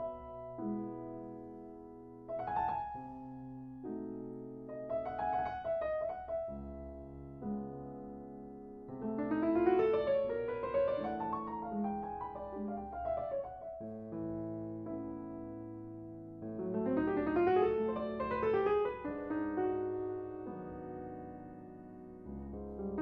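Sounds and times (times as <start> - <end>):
slow piano music: 0.0 - 23.0.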